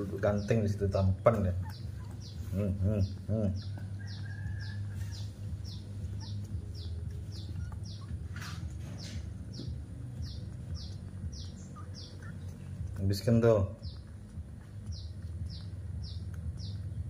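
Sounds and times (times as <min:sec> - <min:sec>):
small bird chirping: 0:00.0 - 0:17.0
steady low hum: 0:00.0 - 0:17.0.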